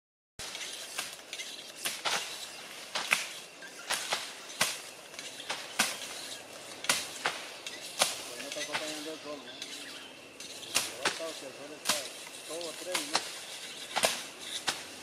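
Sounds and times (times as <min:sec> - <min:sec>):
machetes chopping through grass: 0:00.4 - 0:09.2, 0:10.6 - 0:15.0.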